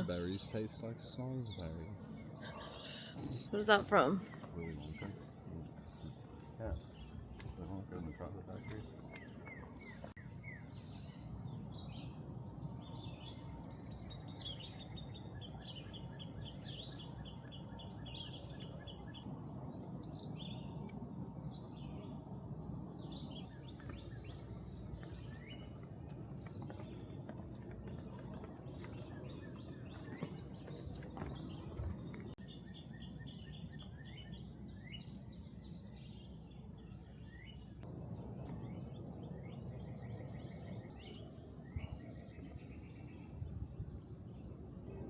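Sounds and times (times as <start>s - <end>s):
birds chirping and calling: 0.0s - 45.0s.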